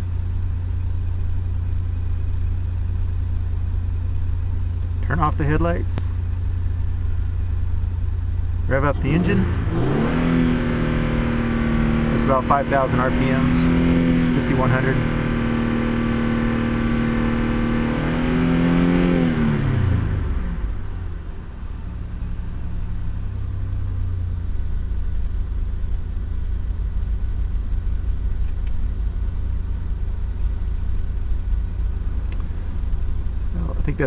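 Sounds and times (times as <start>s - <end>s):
car engine revving then idling: 0.0s - 34.0s.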